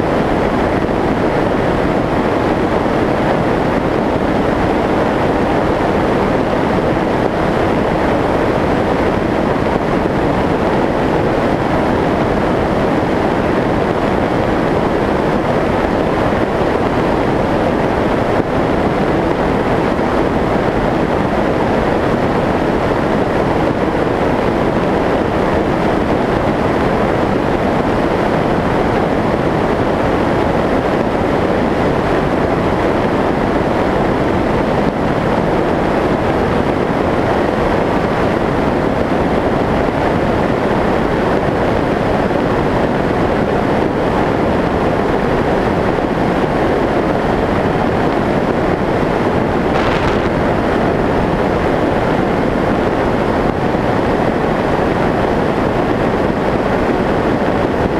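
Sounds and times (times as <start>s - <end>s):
airflow and propeller noise: 0.0s - 57.9s.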